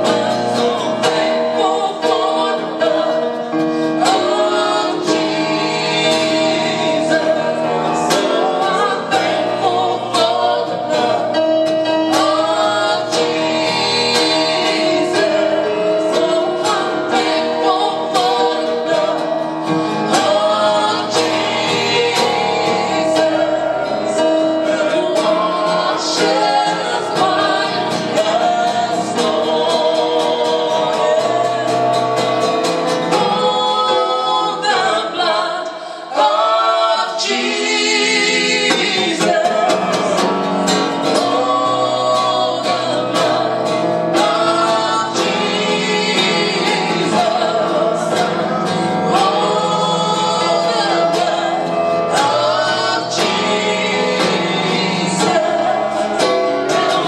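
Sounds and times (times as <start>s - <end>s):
instrumental backing: 0.0s - 35.6s, 36.3s - 57.0s
worship song singing: 0.0s - 57.0s.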